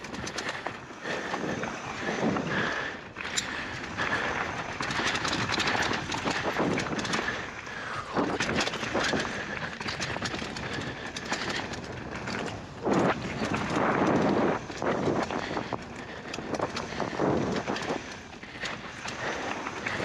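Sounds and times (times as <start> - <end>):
bike clicks and rattles: 0.0 - 20.0
bike tyres rolling on dirt: 0.0 - 20.0.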